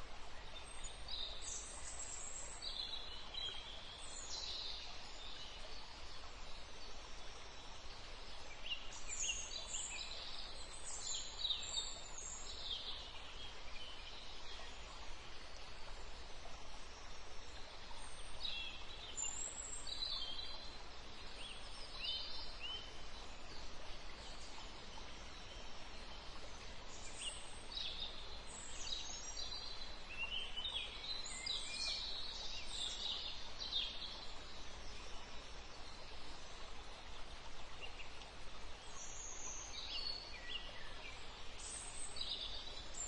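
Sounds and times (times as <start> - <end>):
faint background hiss: 0.0 - 43.0.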